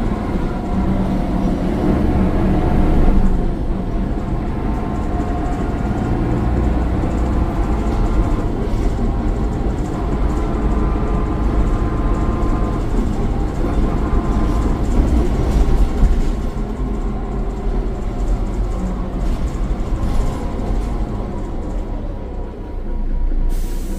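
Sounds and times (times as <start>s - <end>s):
diesel bus engine running: 0.0s - 23.9s.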